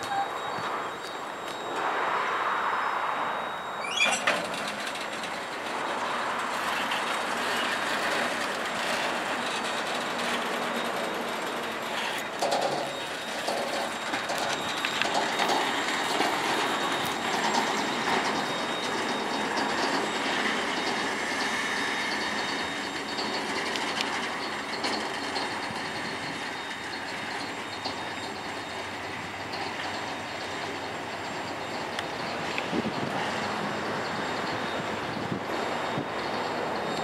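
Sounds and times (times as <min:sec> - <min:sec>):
faint wheel squeal: 0:00.0 - 0:37.0
train wheels clicking over rail joints: 0:03.8 - 0:37.0.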